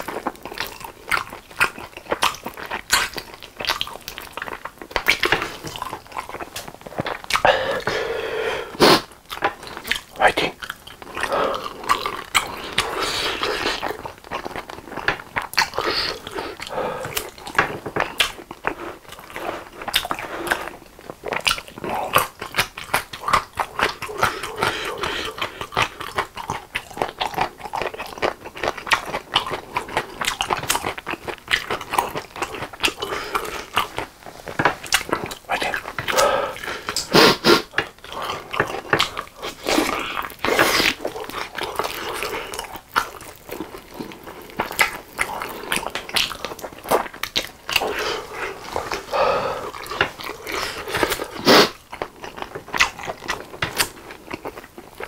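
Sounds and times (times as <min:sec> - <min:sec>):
wet chewing and lip-smacking: 0:00.0 - 0:07.9, 0:09.1 - 0:55.0.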